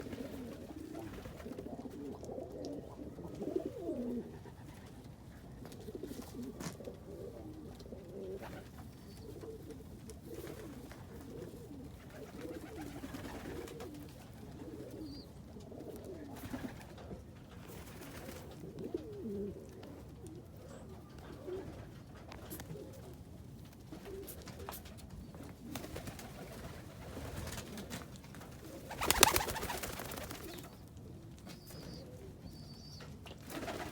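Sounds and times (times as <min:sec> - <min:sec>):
pigeons cooing: 0:00.0 - 0:23.2, 0:23.9 - 0:33.9.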